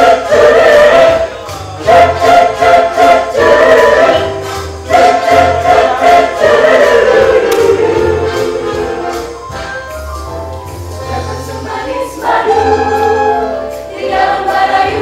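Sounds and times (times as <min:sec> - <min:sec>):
choir singing in harmony: 0:00.0 - 0:09.6, 0:10.9 - 0:15.0.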